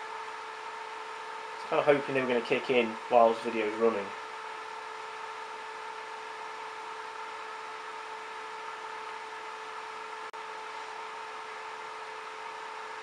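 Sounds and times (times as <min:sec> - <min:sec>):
cooling fans whirring: 0:00.0 - 0:13.0
faint steady hum: 0:00.0 - 0:13.0.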